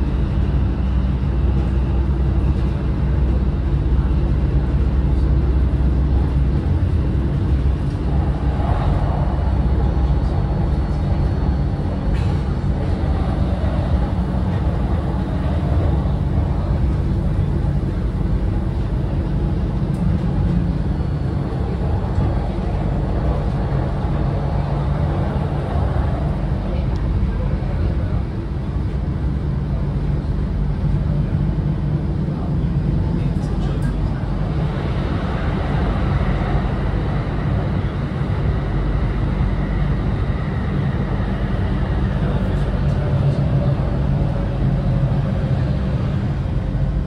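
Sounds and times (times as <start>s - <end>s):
tram rumbling in motion: 0.0s - 47.0s.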